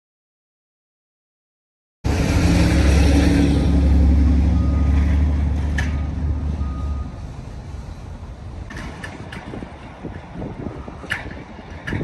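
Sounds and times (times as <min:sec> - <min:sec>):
vehicle engine rumbling: 0:02.1 - 0:12.0.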